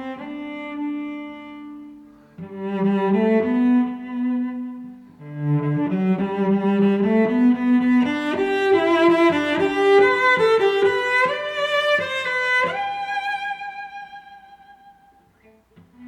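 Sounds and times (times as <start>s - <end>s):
bowed strings melody: 0.0s - 16.0s.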